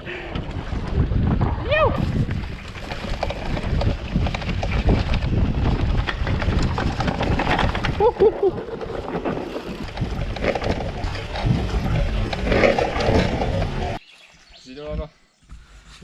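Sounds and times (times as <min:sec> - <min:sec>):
bike rattling: 0:00.0 - 0:14.0
wind and tyre noise: 0:00.0 - 0:16.0.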